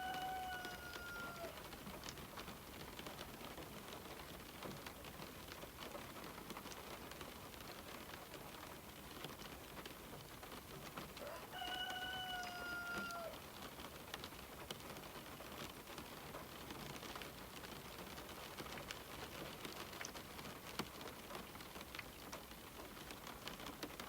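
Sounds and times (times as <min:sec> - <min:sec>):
rain pattering on a window: 0:00.0 - 0:24.0.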